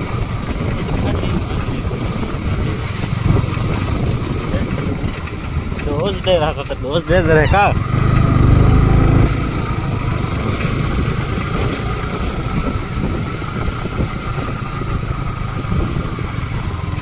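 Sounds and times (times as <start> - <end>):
motorcycle engine running: 0.0 - 17.0
rush of noise: 0.0 - 17.0.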